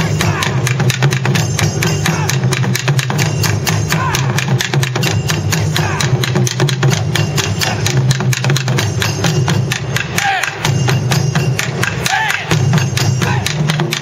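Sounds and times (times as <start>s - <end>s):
drummers shouting calls: 0.0s - 8.7s, 9.7s - 14.0s
taiko drums beating: 0.0s - 14.0s.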